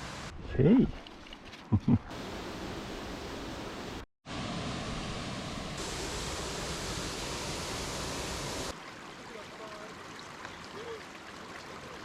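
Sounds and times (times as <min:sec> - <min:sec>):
rushing water: 0:02.1 - 0:12.0.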